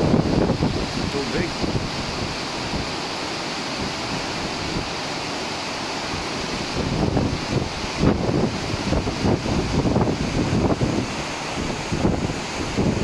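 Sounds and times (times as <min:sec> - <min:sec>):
wind buffeting microphone: 0:00.0 - 0:05.2, 0:06.1 - 0:13.0
churning waves: 0:00.0 - 0:13.0.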